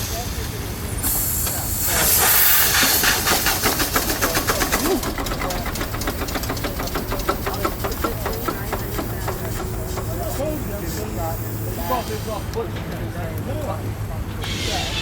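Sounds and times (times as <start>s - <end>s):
steam hissing: 0.0s - 12.8s, 14.4s - 15.0s
steam engine beat: 0.0s - 13.0s.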